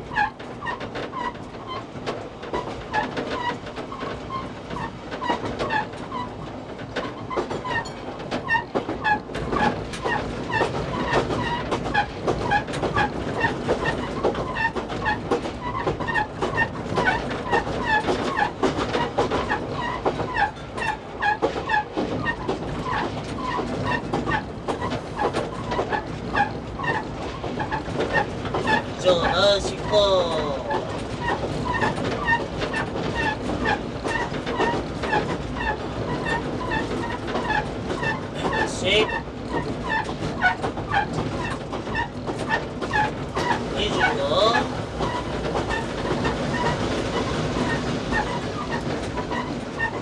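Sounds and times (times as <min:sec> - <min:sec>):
train running along track: 0:00.0 - 0:50.0.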